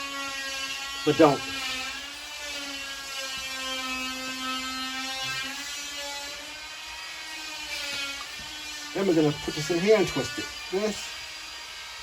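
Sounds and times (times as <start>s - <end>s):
electric buzz with whine: 0.0s - 12.0s.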